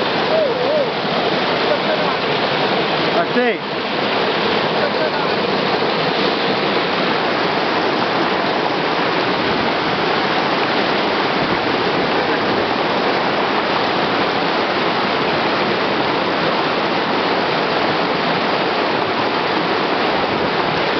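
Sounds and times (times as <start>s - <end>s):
river water rushing through rapids: 0.0s - 20.9s.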